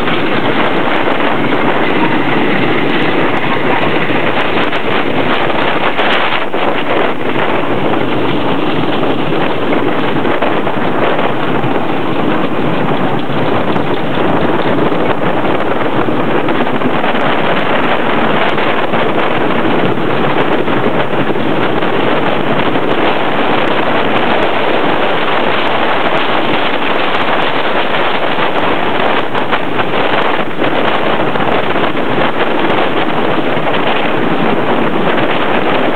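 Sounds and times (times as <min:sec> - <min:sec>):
roller coaster rattling on wooden track: 0:00.0 - 0:35.9
wind rushing over microphone: 0:00.0 - 0:35.9.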